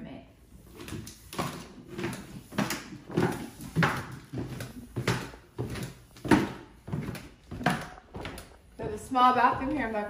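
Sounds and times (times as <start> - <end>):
footsteps on wooden stairs: 0.7 - 10.0.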